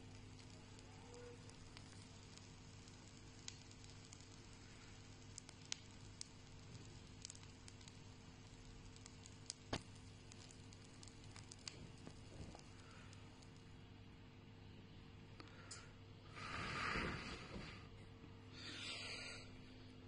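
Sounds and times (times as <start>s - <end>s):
burning charcoal crackling: 0.0s - 13.9s, 15.3s - 18.0s
steady low hum: 0.0s - 20.0s.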